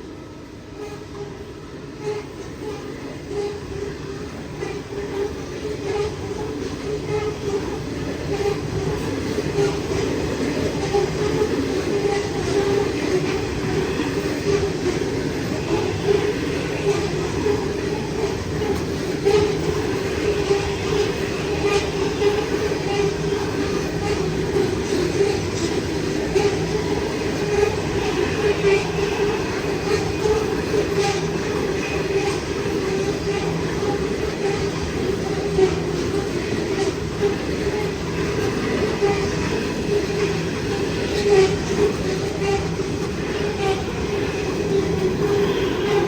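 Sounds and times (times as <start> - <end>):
train wagons rumbling and rattling: 0.0 - 46.0
wheels clicking on rails: 2.0 - 46.0.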